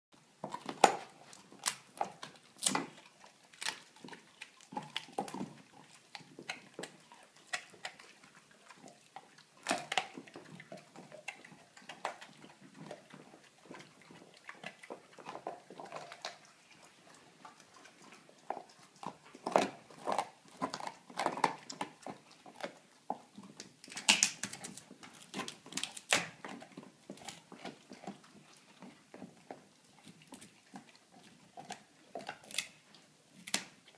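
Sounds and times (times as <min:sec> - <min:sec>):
dog chewing bone: 0:00.3 - 0:33.9.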